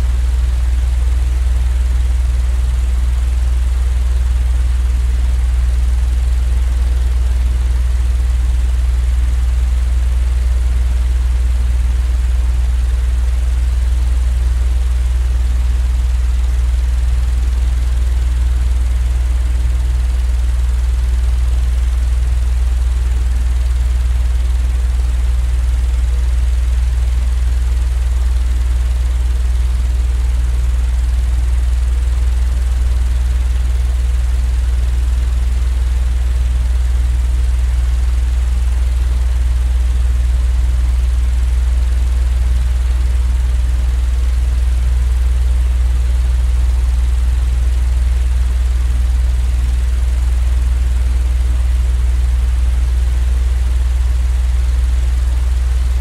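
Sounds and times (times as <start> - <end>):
deep continuous hum: 0.0 - 47.1, 54.7 - 56.0.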